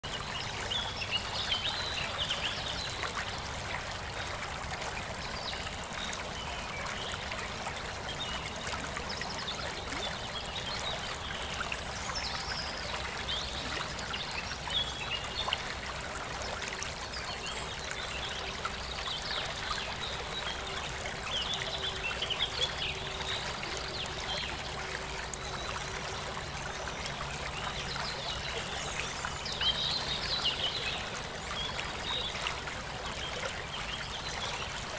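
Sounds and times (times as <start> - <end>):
running water trickling: 0.1 - 34.9.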